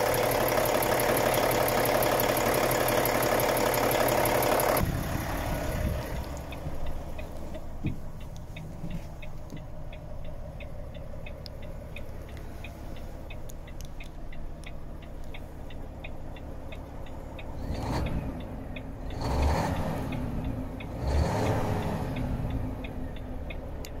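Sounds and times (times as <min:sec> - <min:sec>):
indicator relay ticking: 0:00.0 - 0:05.0, 0:05.8 - 0:24.0
truck diesel engine running: 0:00.0 - 0:24.0.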